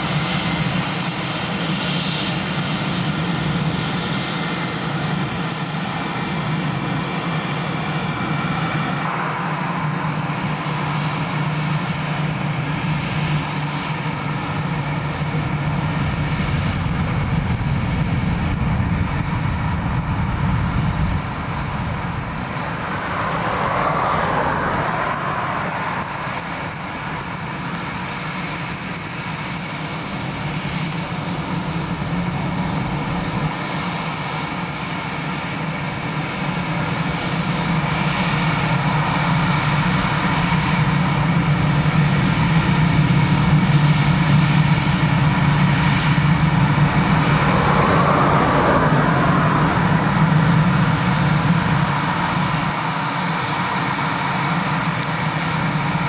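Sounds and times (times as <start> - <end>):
jet engines at takeoff power: 0.0 - 56.0.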